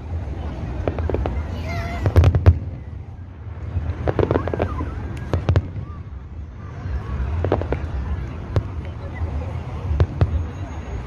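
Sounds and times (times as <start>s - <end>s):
fireworks bangs and crackles: 0.0s - 11.0s
low steady rumble: 0.0s - 11.0s.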